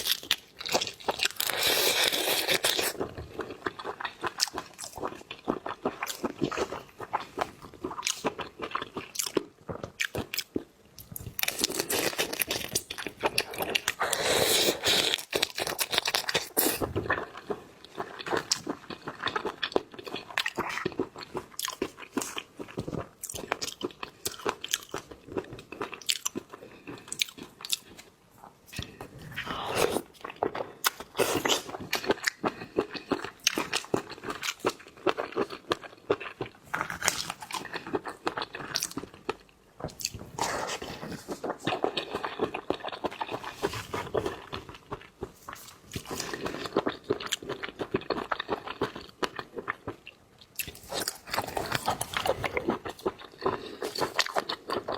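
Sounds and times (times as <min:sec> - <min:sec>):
crunching and chewing seafood: 0:00.0 - 0:54.9.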